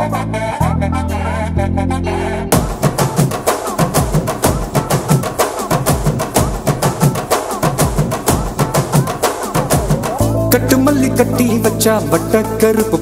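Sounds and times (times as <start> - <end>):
upbeat dance song: 0.0 - 13.0.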